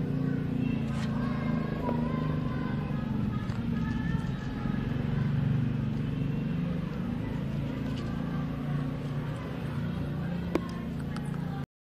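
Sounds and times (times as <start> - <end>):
motor humming: 0.0 - 11.6.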